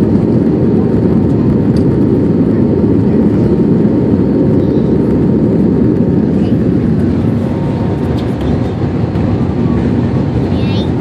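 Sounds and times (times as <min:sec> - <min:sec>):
jet engine noise in cabin: 0:00.0 - 0:11.0
rushing airflow: 0:00.0 - 0:11.0.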